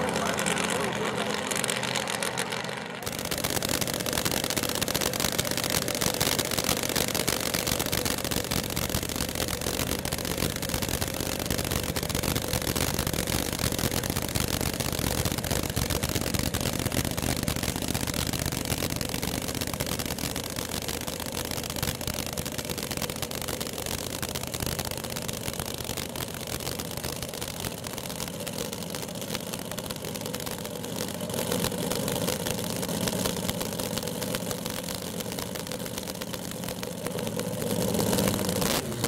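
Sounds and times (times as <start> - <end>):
racing car engine idling: 0.0 - 39.0.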